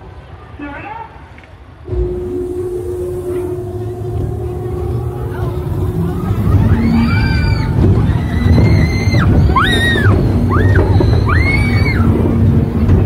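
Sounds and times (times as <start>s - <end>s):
spinning ride rumbling: 1.8s - 13.0s.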